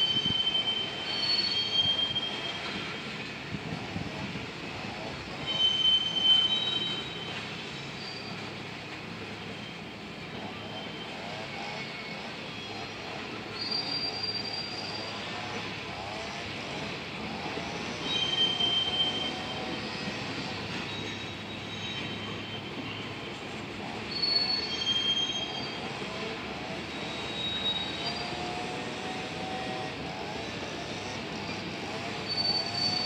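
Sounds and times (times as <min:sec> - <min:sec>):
high-pitched wheel squeals: 0:00.0 - 0:03.3, 0:04.9 - 0:33.0
train wheels rumbling on rail: 0:00.0 - 0:33.0.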